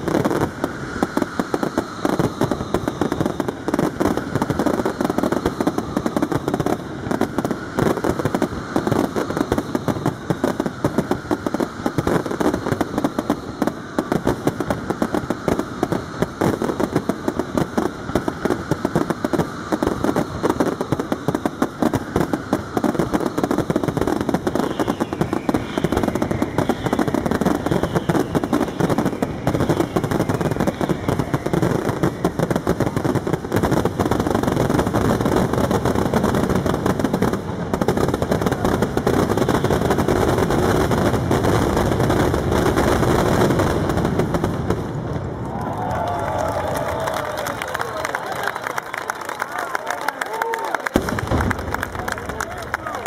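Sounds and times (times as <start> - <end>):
firework whistles: 0.0 - 53.0
fireworks bursting and crackling: 0.0 - 53.0.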